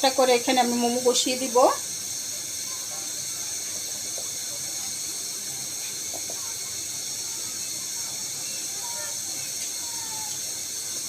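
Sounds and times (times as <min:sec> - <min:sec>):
steam hissing from boiling pot: 0:00.0 - 0:11.0.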